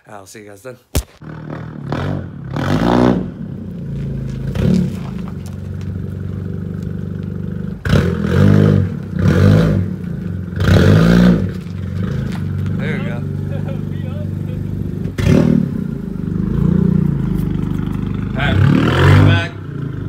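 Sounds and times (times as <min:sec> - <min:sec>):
car engine revving: 0:01.2 - 0:20.0.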